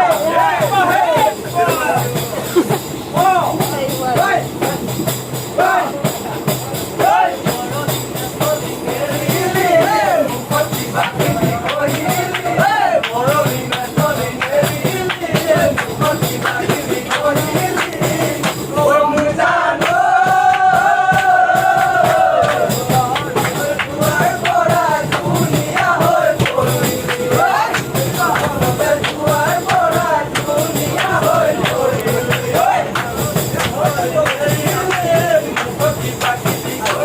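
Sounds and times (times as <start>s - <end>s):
steady percussion beat: 0.0s - 37.0s.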